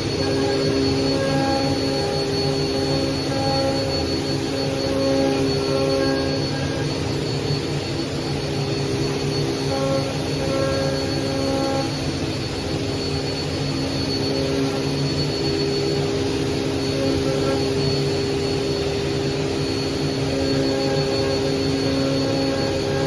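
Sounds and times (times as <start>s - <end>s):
router spindle motor whine: 0.0s - 23.0s.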